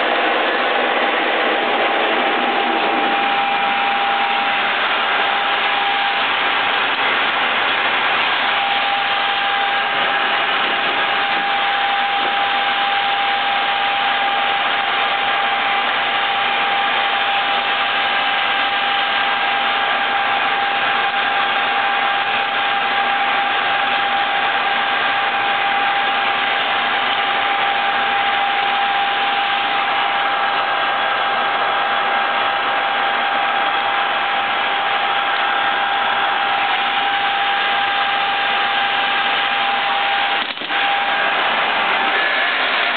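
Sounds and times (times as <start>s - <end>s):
boring mill running: 0.0s - 42.9s
high machine whine: 0.0s - 42.9s.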